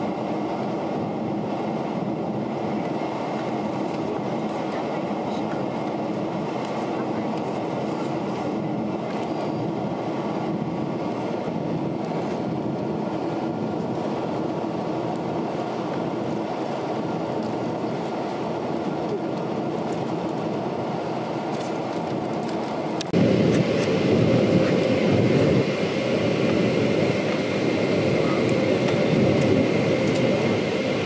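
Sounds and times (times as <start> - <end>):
jet airliner cabin noise: 0.0 - 31.0.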